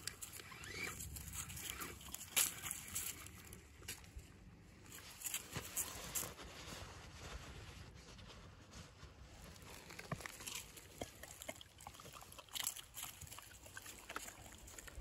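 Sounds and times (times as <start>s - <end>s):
dry leaves crunching underfoot: 0.0s - 7.7s, 9.3s - 15.0s.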